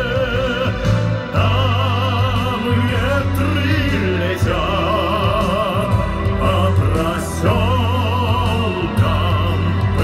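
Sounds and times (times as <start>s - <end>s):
man singing with vibrato: 0.0s - 10.0s
pop backing track: 0.0s - 10.0s.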